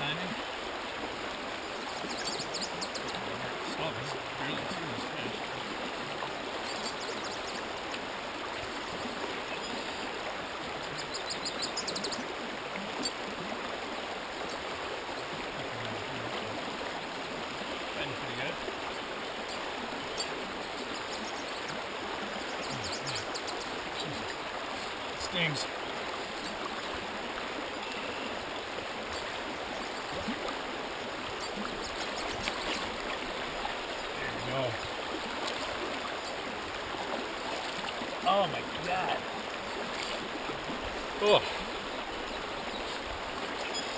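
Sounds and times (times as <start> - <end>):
creek water rushing: 0.0 - 43.9.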